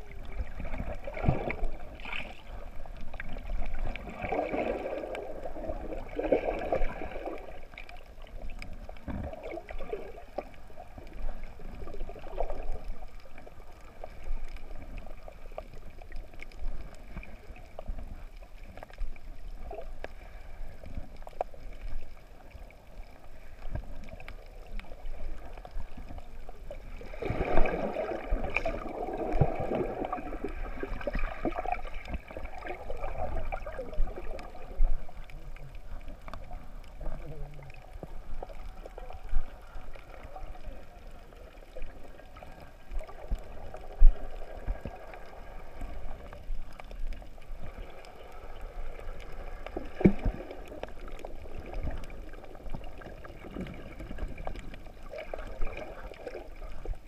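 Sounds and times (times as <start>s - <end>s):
underwater gurgling and sloshing: 0.0s - 57.0s.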